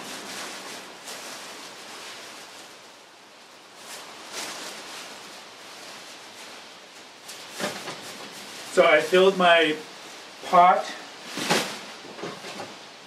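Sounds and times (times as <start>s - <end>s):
dried leaves crinkling: 0.0s - 13.0s
plastic bag rustling: 0.0s - 13.0s.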